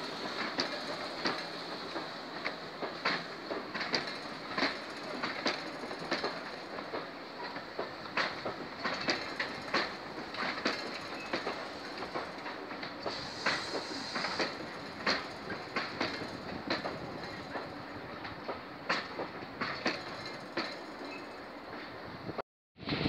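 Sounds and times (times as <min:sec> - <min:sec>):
train wheels clicking over rail joints: 0:00.0 - 0:22.0
steady train running noise: 0:00.0 - 0:23.0.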